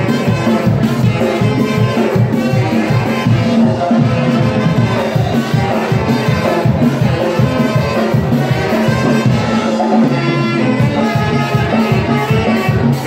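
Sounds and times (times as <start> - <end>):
brass band dance music: 0.0 - 13.0.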